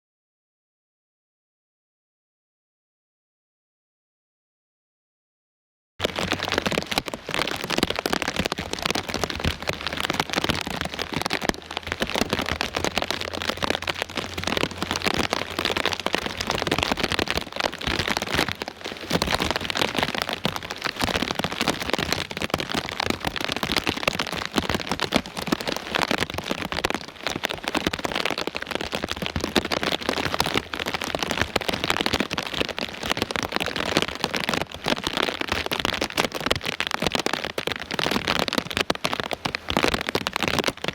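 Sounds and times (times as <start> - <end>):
heavy rain pouring: 6.0 - 40.9.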